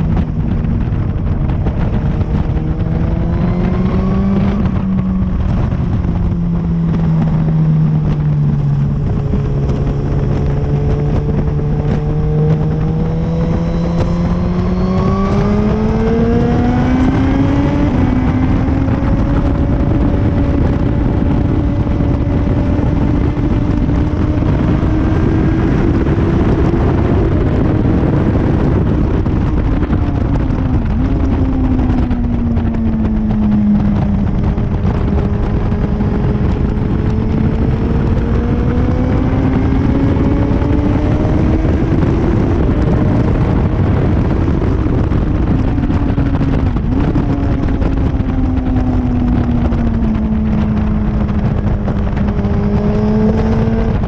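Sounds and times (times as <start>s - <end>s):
motorcycle engine running hard: 0.0s - 54.0s
wind noise: 0.0s - 54.0s.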